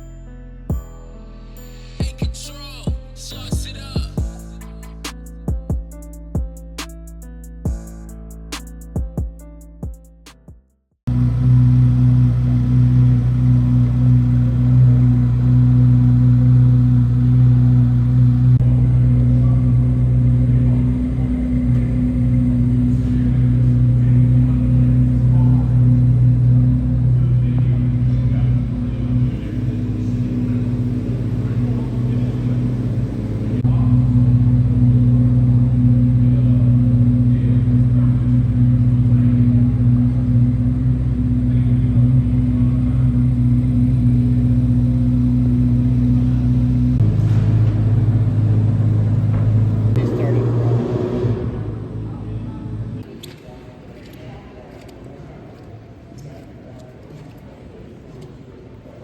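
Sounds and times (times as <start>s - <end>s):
vehicle engine running: 0.0s - 9.9s, 11.1s - 53.5s
low pulsing rumble: 0.0s - 10.0s, 11.1s - 53.2s.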